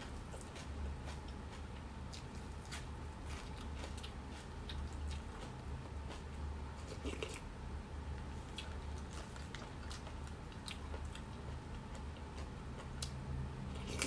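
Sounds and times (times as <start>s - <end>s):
crunching and chewing leafy greens: 0.0s - 14.0s
low steady hum: 0.0s - 14.0s.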